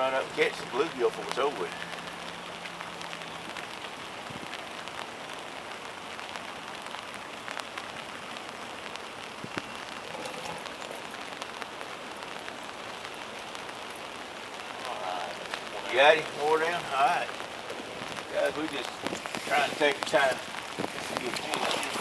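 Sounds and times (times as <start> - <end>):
rain hissing: 0.0 - 22.0
raindrop ticks: 0.0 - 22.0.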